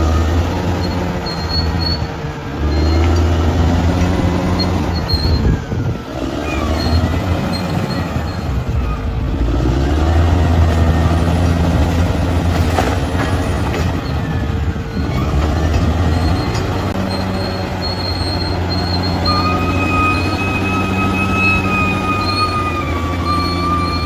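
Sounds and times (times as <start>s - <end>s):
bulldozer diesel engine: 0.0s - 24.0s
high-pitched squeal: 0.0s - 24.0s.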